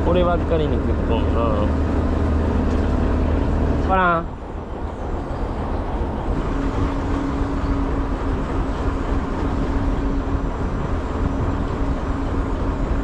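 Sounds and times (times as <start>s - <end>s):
boat engine humming: 0.0s - 13.0s
wind and sea rushing: 0.0s - 13.0s.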